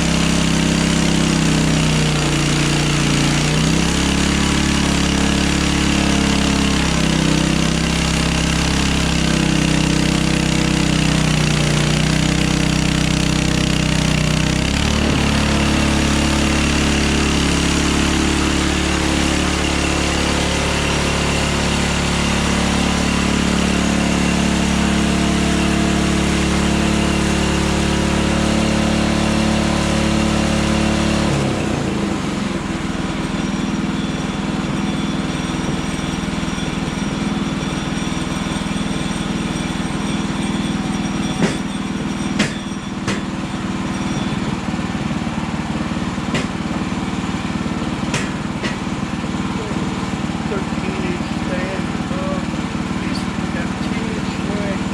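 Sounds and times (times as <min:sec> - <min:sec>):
sawmill gas engine running: 0:00.0 - 0:54.9.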